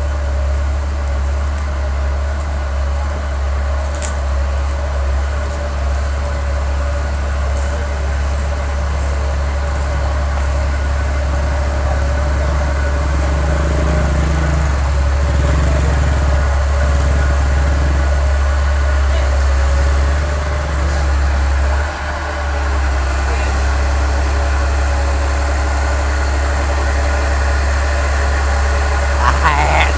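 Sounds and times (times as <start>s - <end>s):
excavator diesel engine idling: 0.0s - 29.9s.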